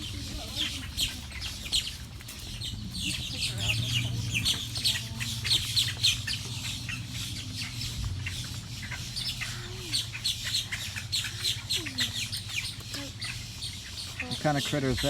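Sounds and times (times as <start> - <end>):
birds chirping and squawking: 0.0 - 15.0.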